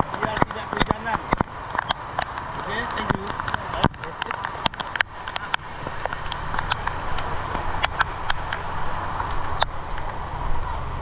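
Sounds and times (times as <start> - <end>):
car engines in slow traffic: 0.0 - 11.0
rain drops ticking: 0.0 - 11.0.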